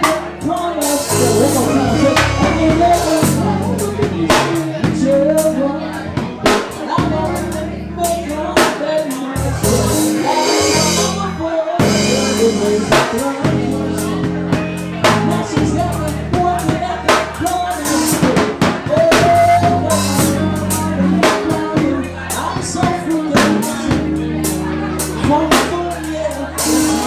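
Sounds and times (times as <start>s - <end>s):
drum kit beat: 0.0s - 27.0s
live band playing: 0.0s - 27.0s.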